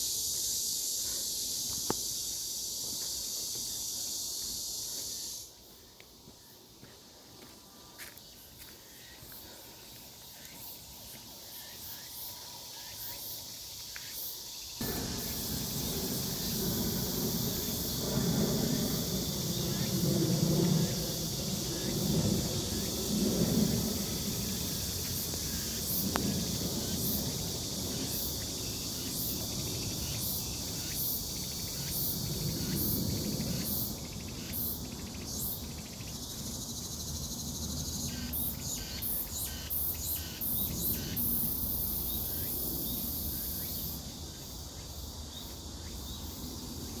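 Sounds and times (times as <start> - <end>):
insects buzzing: 0.0 - 47.0
insects chirping: 0.0 - 47.0.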